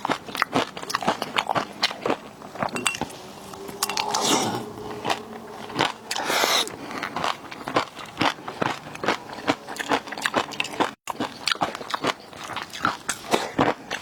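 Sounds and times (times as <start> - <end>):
wet chewing and crunching: 0.0 - 4.0, 5.0 - 14.0
slurping: 0.4 - 11.8.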